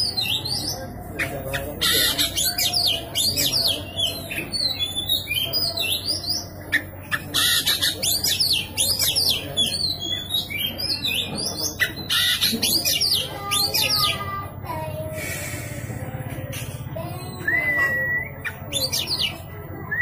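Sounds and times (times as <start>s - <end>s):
magpie-robin singing: 0.0s - 14.6s, 16.5s - 20.0s.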